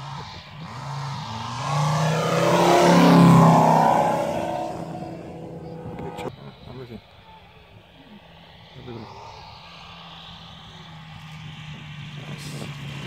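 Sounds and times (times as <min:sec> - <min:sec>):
radial engine plane flyby: 0:00.0 - 0:13.0.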